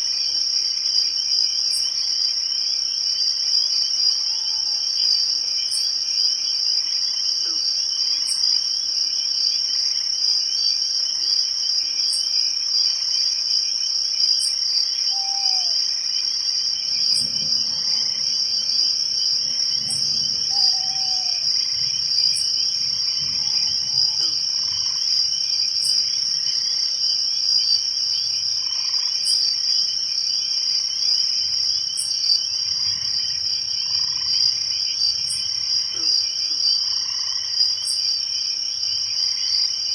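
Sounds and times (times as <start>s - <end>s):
insects trilling: 0.0s - 39.9s
low insect calls: 0.0s - 39.9s
sharp insect chirp: 0.9s - 39.9s.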